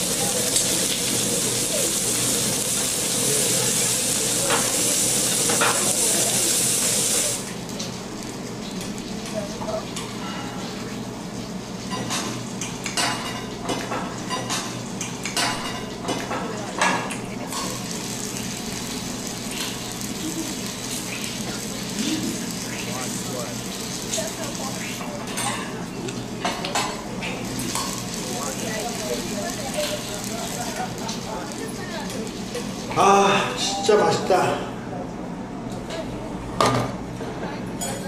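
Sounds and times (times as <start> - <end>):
meat sizzling on grill: 0.0 - 34.4.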